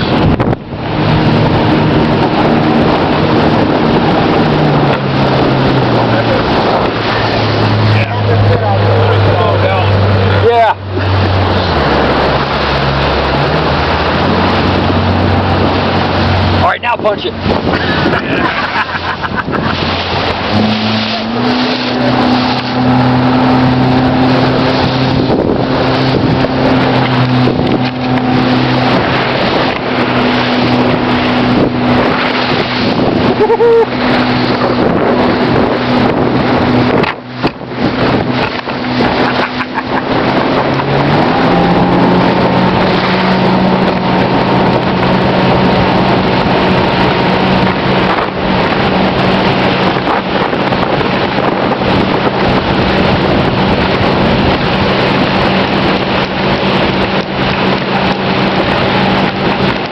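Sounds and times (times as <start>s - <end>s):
motorboat engine running: 0.0s - 59.9s
water rushing: 0.0s - 59.9s
wind buffeting microphone: 0.0s - 59.9s.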